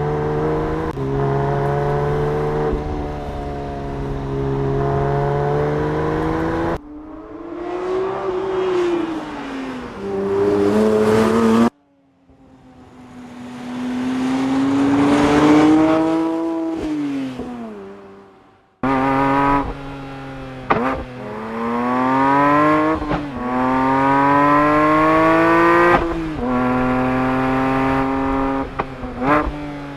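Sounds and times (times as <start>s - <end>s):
sports car engine passing at speed: 0.0s - 29.9s.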